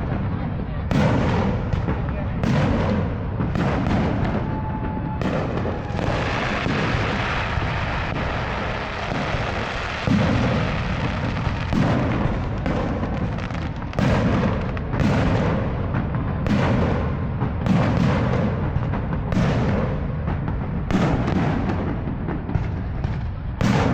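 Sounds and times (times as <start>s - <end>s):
firework shells booming: 0.0s - 23.9s
fireworks crackling: 0.0s - 23.9s
loud firework bangs: 0.0s - 23.9s.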